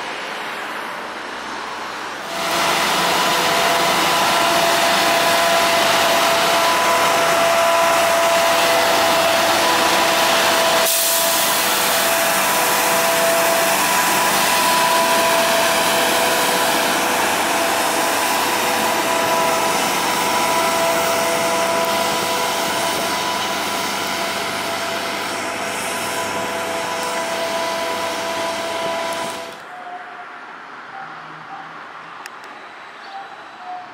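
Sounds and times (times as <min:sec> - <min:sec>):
suction blower rushing noise: 0:02.2 - 0:29.6.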